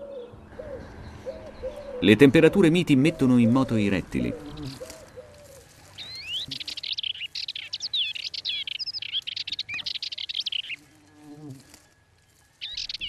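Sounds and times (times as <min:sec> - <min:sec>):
songbird twittering song: 0:00.0 - 0:13.0.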